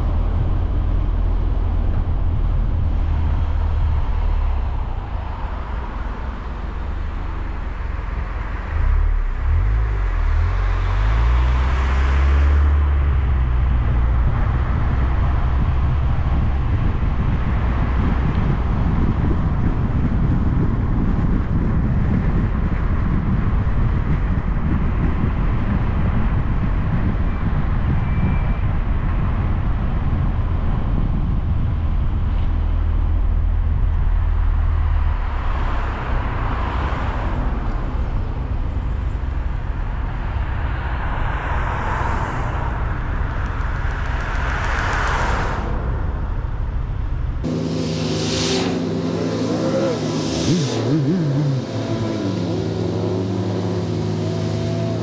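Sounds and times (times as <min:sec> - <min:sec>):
car road noise rumble: 0:00.0 - 0:55.0
passing traffic whooshes: 0:00.0 - 0:55.0.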